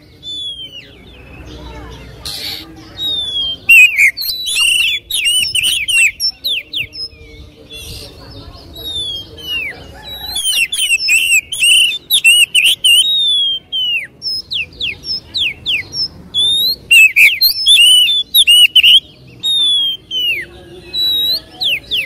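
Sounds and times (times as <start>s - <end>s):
bird singing whistled notes: 0.0s - 22.0s.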